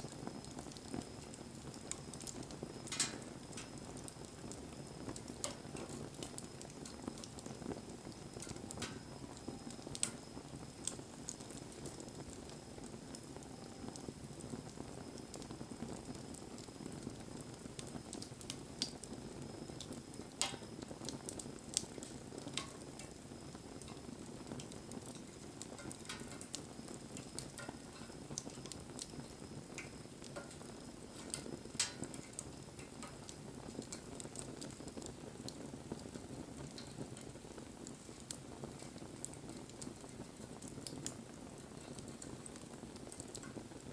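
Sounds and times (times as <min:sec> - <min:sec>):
burning wood crackling and popping: 0:00.0 - 0:43.9
campfire flames rushing: 0:00.0 - 0:43.9.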